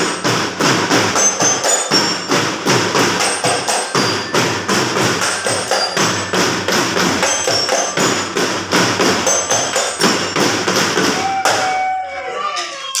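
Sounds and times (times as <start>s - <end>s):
drum beat with jingling: 0.0s - 11.9s
ringing tones: 1.0s - 12.0s.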